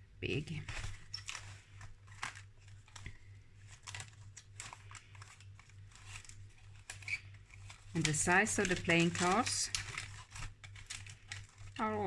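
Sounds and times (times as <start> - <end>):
faint low hum: 0.0 - 12.0
paper rustling: 0.5 - 12.0.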